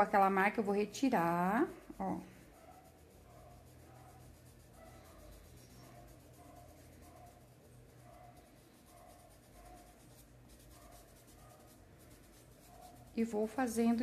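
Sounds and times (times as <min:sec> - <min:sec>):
paintbrush scratching cloth: 0:00.0 - 0:14.0.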